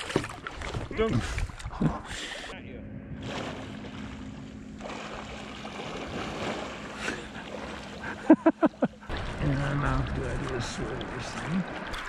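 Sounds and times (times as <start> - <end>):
water lapping: 0.0 - 2.5, 3.2 - 12.0.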